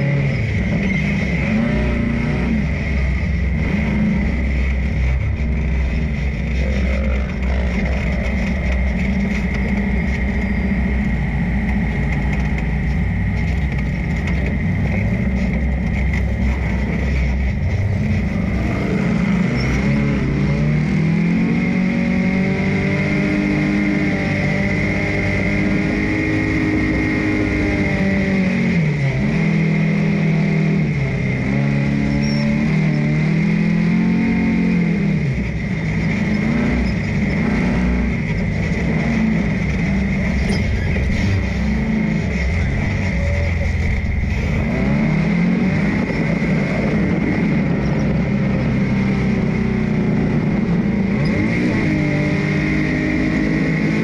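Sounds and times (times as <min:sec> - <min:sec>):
dune buggy engine revving: 0:00.0 - 0:54.0
steady high whine: 0:00.0 - 0:54.0.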